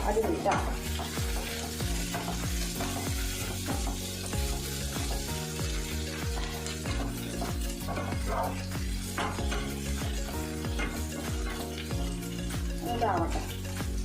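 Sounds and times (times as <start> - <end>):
background music with steady beat: 0.0 - 14.0
vegetables sizzling in a pan: 0.0 - 14.0.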